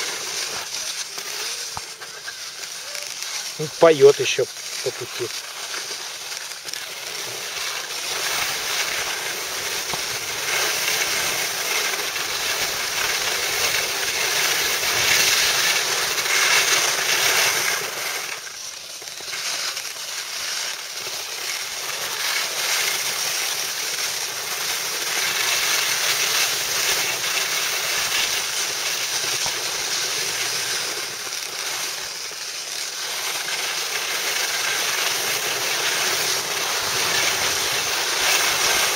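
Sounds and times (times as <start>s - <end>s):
skis sliding over snow: 0.0s - 38.9s.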